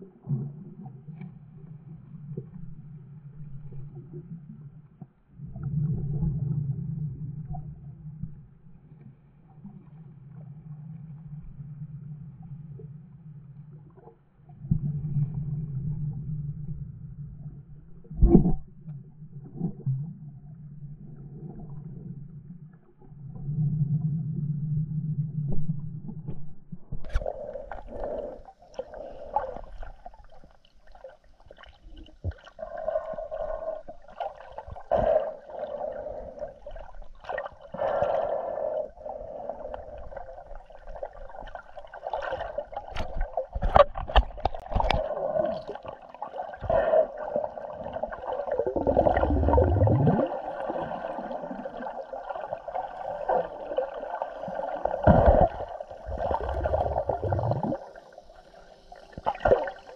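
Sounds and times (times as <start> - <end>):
underwater gurgling and sloshing: 0.0 - 59.9.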